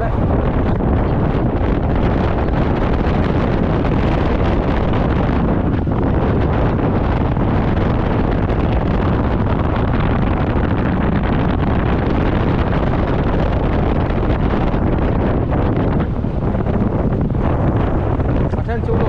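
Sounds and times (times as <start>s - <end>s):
road noise: 0.0s - 19.0s
wind buffeting the microphone: 0.0s - 19.0s.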